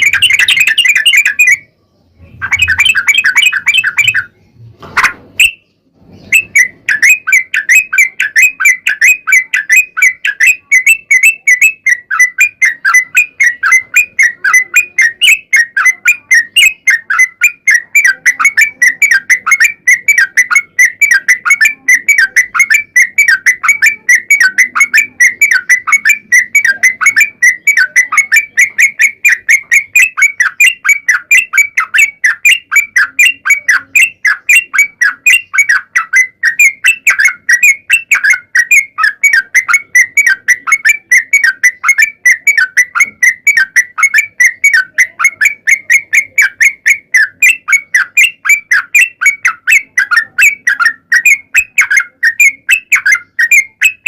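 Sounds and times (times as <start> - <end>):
bulbul chirping: 0.0 - 54.0.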